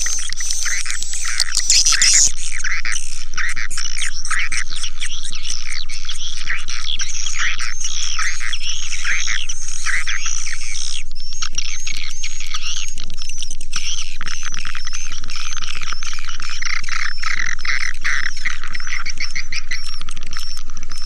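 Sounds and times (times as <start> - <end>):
birds chattering and twittering: 0.0 - 2.3, 4.0 - 12.8, 13.8 - 21.0.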